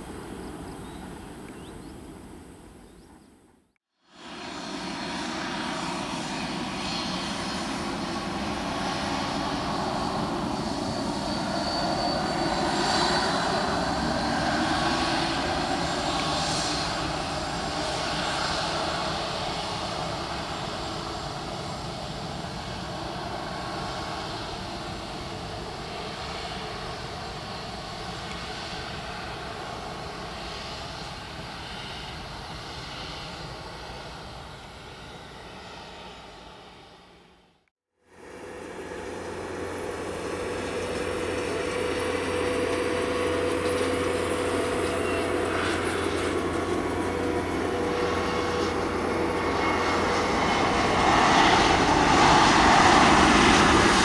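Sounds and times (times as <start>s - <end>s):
jet engine roar: 0.0s - 3.3s, 4.0s - 54.0s.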